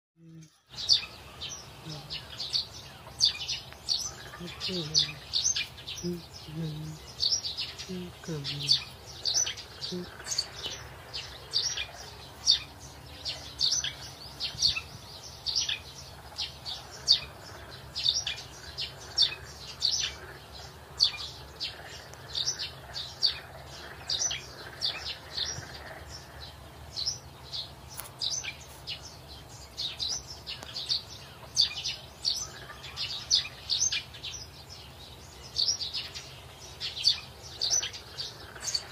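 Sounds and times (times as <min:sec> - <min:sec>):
small birds chirping: 0:00.2 - 0:38.9.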